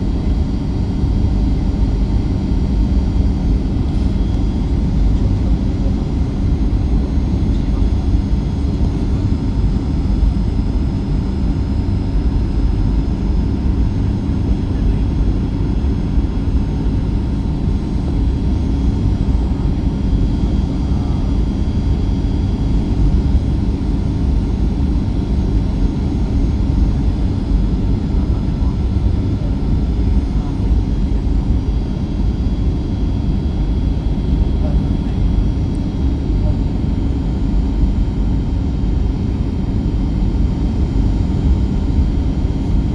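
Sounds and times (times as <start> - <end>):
aircraft cabin low rumble: 0.0 - 42.9.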